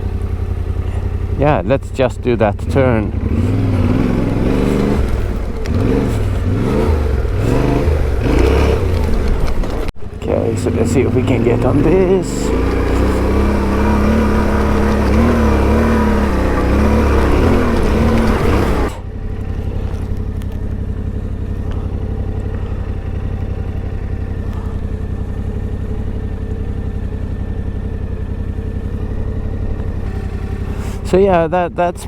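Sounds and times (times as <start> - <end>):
motorcycle engine revving and idling: 0.0 - 32.0.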